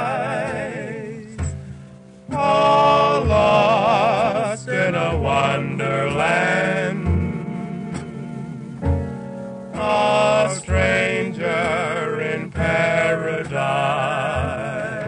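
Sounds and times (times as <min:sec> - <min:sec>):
person singing with vibrato: 0:00.0 - 0:01.7, 0:02.3 - 0:08.8, 0:09.7 - 0:15.0.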